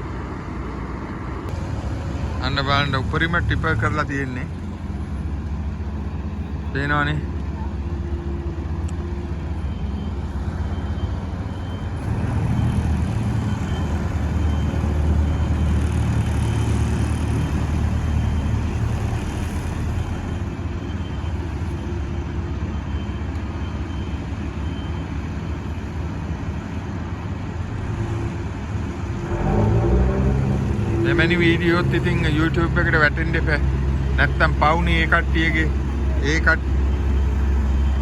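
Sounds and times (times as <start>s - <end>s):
heavy diesel machinery rumbling: 0.0s - 38.0s.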